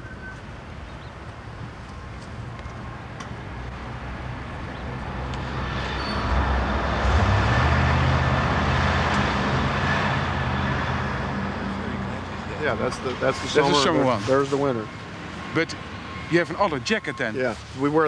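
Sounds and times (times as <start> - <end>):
road noise: 0.0 - 18.0
vehicle engine hum: 0.0 - 18.0.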